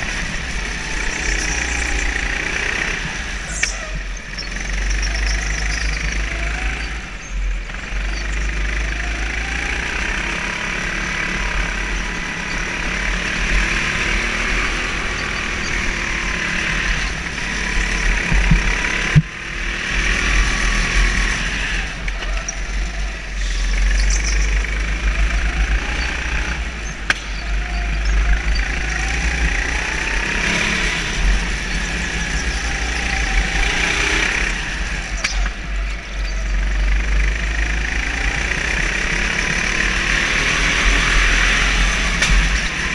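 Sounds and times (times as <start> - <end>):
go-kart engine revving: 0.0 - 42.9.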